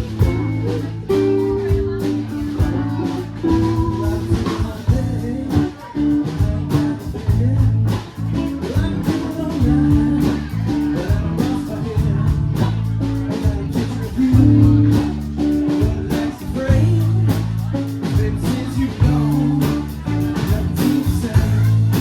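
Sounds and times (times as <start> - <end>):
blues-rock band playing: 0.0 - 22.0
person singing: 0.0 - 22.0.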